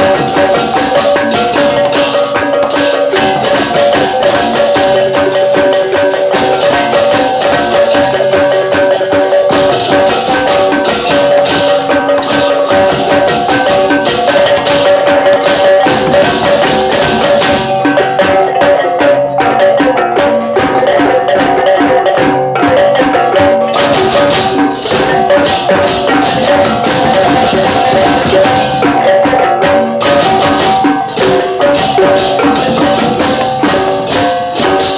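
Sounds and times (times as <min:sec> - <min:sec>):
high clashing cymbals: 0:00.0 - 0:18.4, 0:23.7 - 0:29.0, 0:30.0 - 0:34.9
gamelan metallophones ringing: 0:00.0 - 0:34.9.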